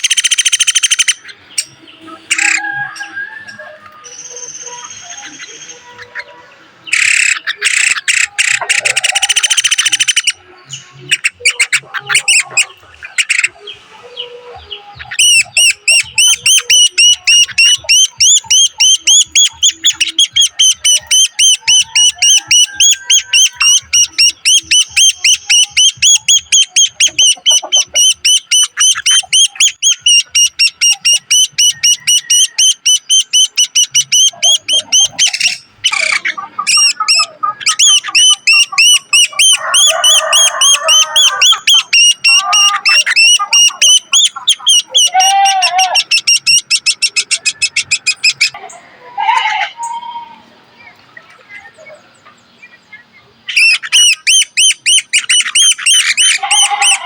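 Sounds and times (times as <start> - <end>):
nestlings begging calls: 0.0 - 50.2, 51.6 - 57.0.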